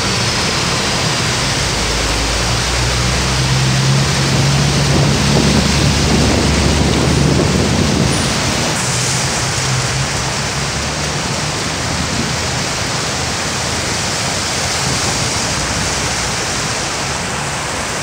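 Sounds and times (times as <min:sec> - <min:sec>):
car engines rumbling: 0:00.0 - 0:18.0
floodwater rushing: 0:00.0 - 0:18.0
tyres splashing through water: 0:00.0 - 0:18.0.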